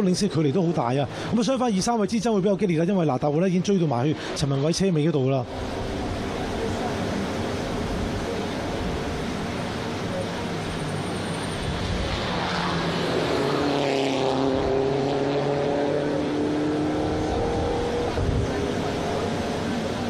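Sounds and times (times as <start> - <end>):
race car engines through speaker: 2.4 - 20.0.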